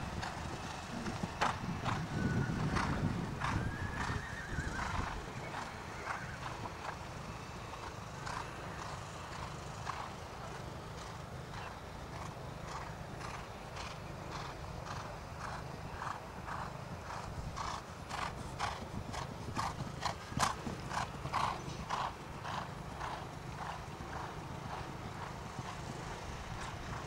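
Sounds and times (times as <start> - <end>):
horse hooves cantering: 0.0 - 27.0.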